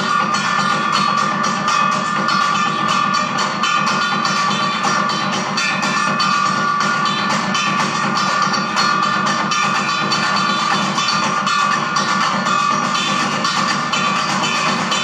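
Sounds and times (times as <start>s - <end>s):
drumming on trash cans: 0.0s - 15.0s
ringing metal tones: 0.0s - 15.0s.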